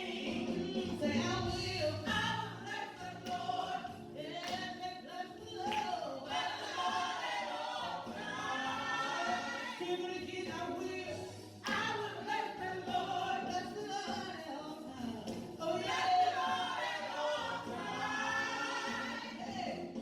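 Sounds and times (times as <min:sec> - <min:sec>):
church choir singing: 0:00.0 - 0:14.5, 0:15.2 - 0:20.0.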